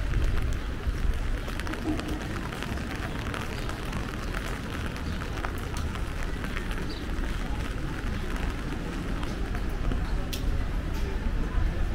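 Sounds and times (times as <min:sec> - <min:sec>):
raindrop ticks: 0:00.0 - 0:11.0
low rumble of street noise: 0:00.0 - 0:11.9.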